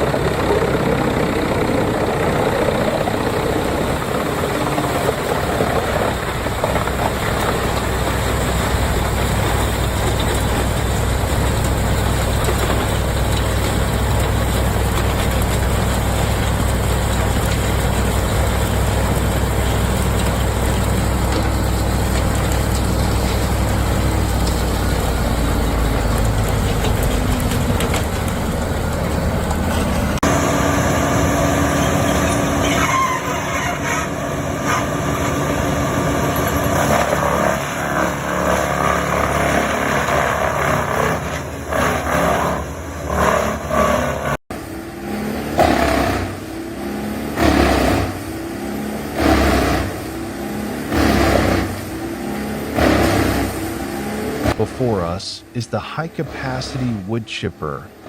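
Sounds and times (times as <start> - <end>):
wood chipper engine running: 0.0 - 57.2.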